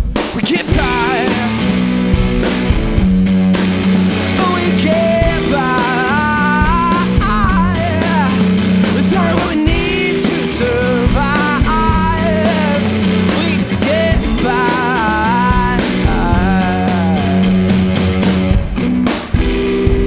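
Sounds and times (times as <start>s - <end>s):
bass line: 0.0s - 20.0s
blues-rock band playing: 0.0s - 20.0s
drum kit hits: 0.0s - 20.0s
electric guitar bending notes: 0.7s - 20.0s.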